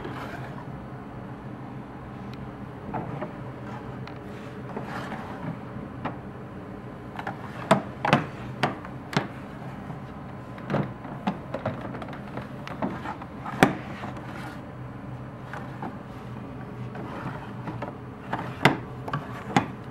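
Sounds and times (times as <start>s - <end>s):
wooden drawers sliding: 0.0s - 0.7s, 2.9s - 6.2s, 7.2s - 14.6s, 15.4s - 19.8s.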